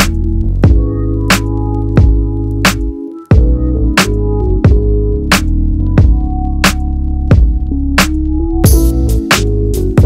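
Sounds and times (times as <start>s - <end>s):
electronic music with drum machine: 0.0s - 10.0s.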